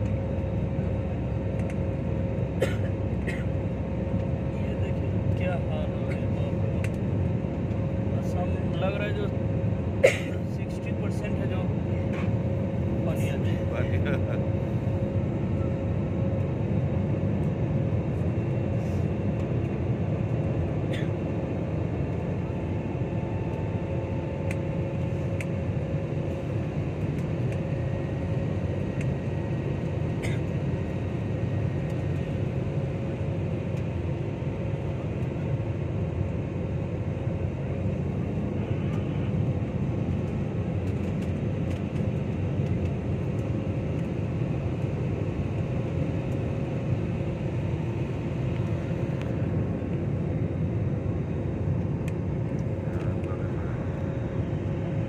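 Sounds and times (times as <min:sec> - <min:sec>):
faint steady hums: 0:00.0 - 0:55.0
jet engines and rushing air: 0:00.0 - 0:55.0.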